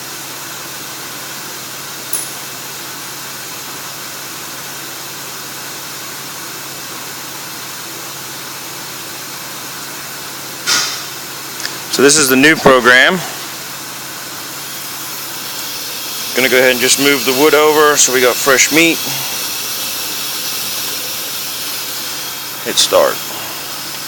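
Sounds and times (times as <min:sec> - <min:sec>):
machinery hum and hiss: 0:00.0 - 0:24.0.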